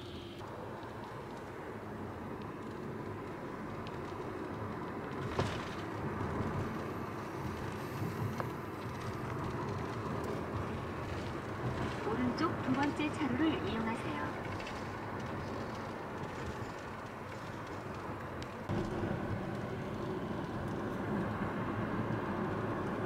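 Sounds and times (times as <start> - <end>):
car cabin road and engine rumble: 0.0 - 23.0.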